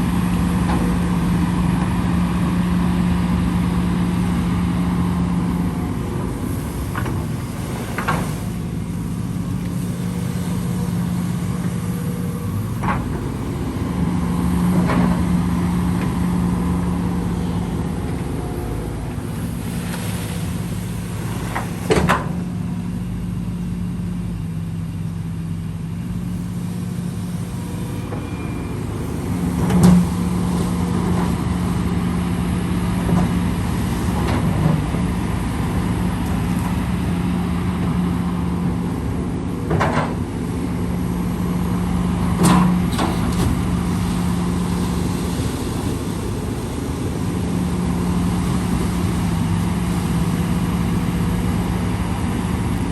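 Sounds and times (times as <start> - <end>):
earthmoving machine diesel engine: 0.0 - 52.9.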